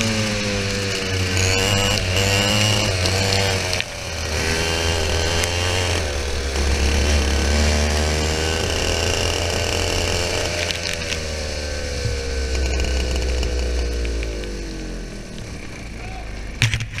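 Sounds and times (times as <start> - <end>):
kart engine revving: 0.0 - 17.0.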